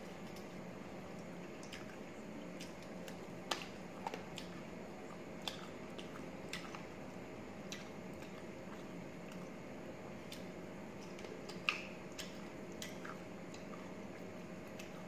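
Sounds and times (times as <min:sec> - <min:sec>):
chewing with wet clicks: 0:00.0 - 0:15.0
faint hum: 0:00.0 - 0:15.0.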